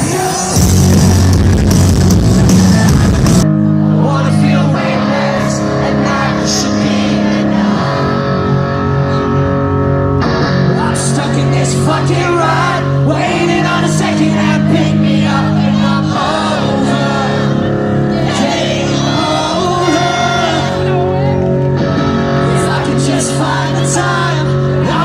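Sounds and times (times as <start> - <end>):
rock song with singing and guitar: 0.0 - 25.0.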